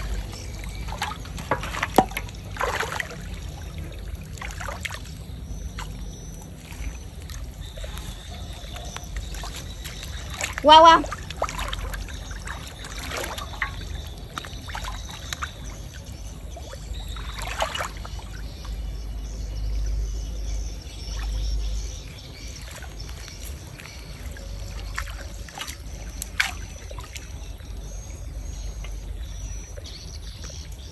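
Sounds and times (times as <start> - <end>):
muddy water sloshing and splashing: 0.0 - 30.9.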